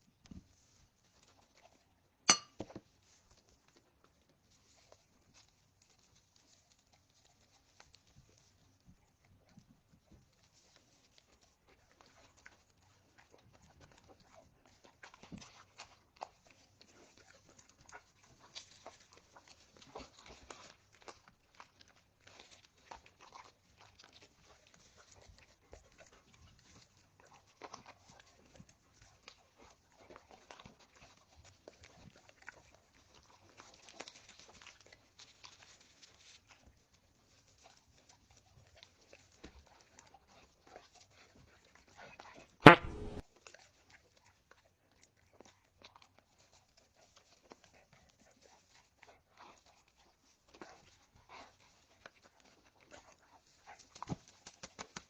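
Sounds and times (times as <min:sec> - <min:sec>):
dog chewing food: 0:02.7 - 0:54.9.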